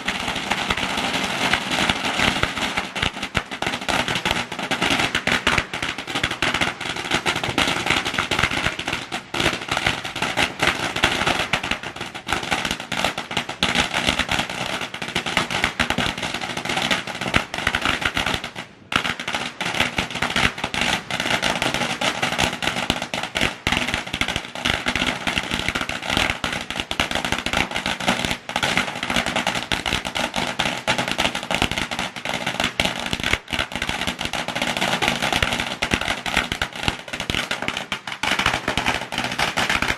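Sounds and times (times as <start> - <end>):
firecrackers popping: 0.0 - 39.9.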